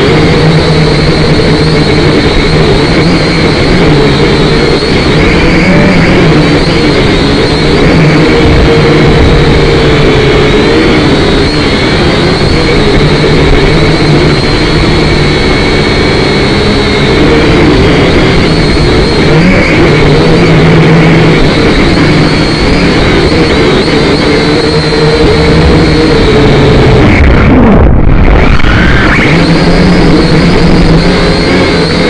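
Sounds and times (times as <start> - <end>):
quadcopter motors buzzing: 0.0 - 32.0.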